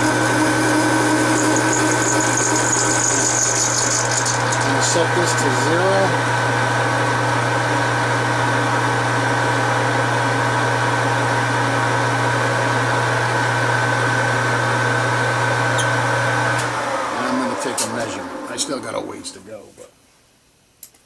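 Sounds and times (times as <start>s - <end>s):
metal lathe humming with whine: 0.0s - 19.1s.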